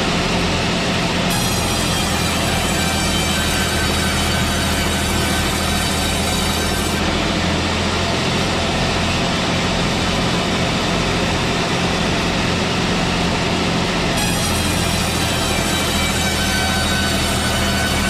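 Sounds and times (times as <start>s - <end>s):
sawmill machine engine drone: 0.0s - 18.0s.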